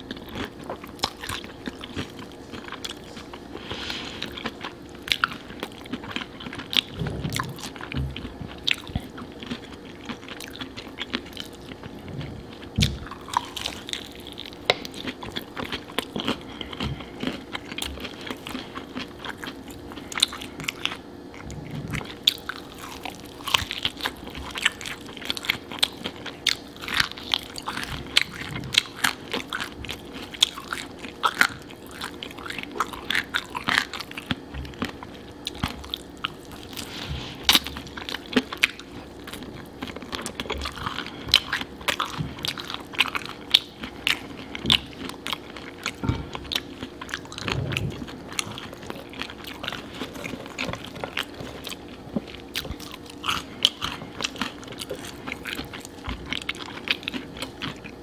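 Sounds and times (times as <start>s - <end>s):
biting and chewing fried chicken: 0.0s - 58.0s
faint steady hum: 0.0s - 58.0s.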